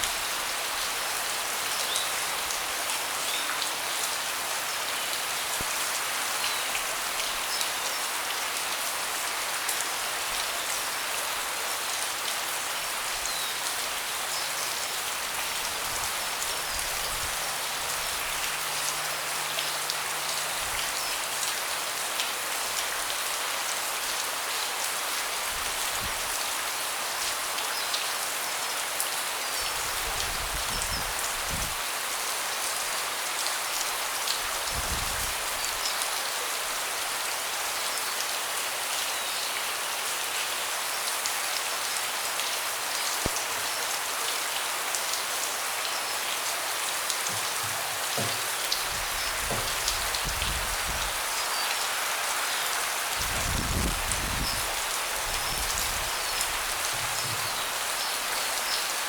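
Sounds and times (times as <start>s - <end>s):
rain falling on a deck: 0.0s - 59.0s.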